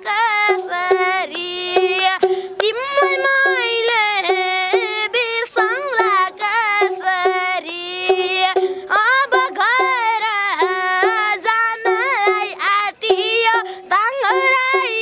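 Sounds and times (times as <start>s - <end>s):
boy singing: 0.0s - 15.0s.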